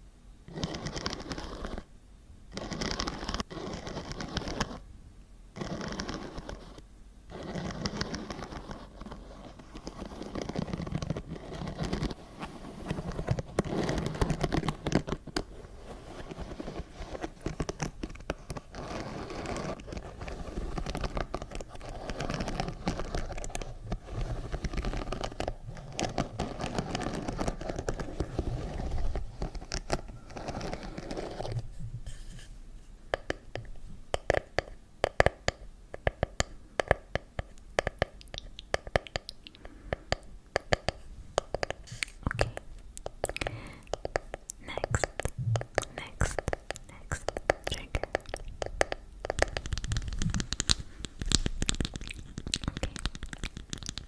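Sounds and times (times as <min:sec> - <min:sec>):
asmr scratching and crinkling: 0:00.5 - 0:01.9, 0:02.5 - 0:04.8, 0:05.6 - 0:32.6, 0:40.6 - 0:54.0.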